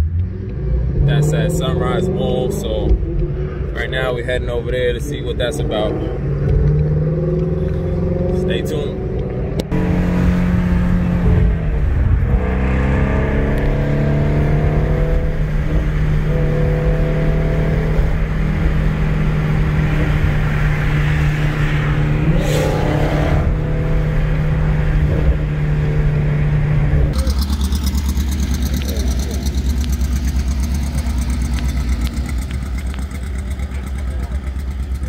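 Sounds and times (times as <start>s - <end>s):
car engine cruising: 0.0s - 35.0s.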